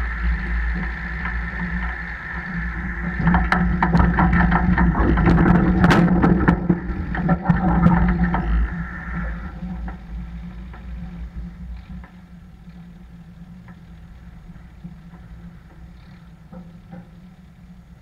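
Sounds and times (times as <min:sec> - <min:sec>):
tractor running: 0:00.0 - 0:18.0.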